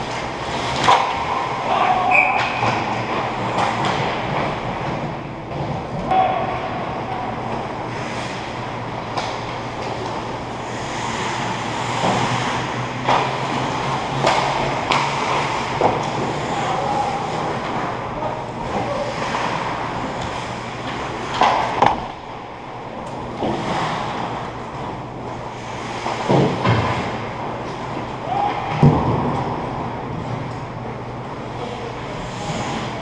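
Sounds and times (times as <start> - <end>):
skates scraping ice: 0.0 - 30.6, 31.3 - 33.0
hockey sticks and puck clacking: 0.0 - 30.8
steady low hum: 2.8 - 33.0.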